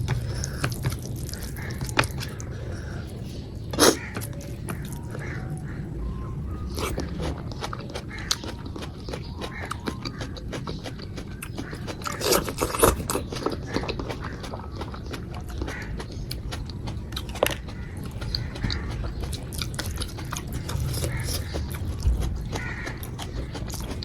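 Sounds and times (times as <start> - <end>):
person chewing food: 0.0 - 5.7, 6.6 - 24.0.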